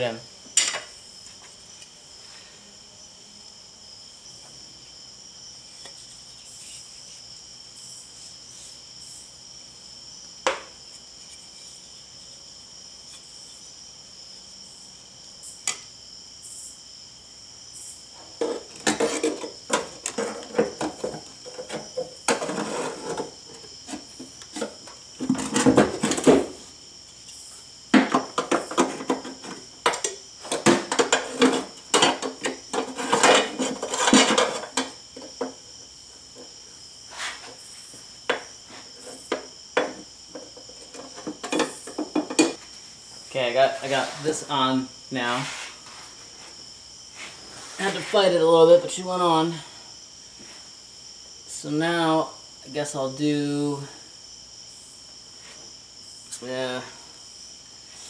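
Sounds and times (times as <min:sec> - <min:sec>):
high cricket-like trill: 0:00.0 - 0:58.0.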